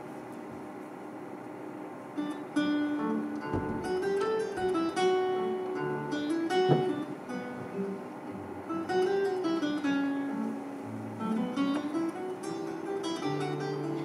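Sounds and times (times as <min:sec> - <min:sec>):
classical guitar fingerstyle: 0:02.2 - 0:14.0.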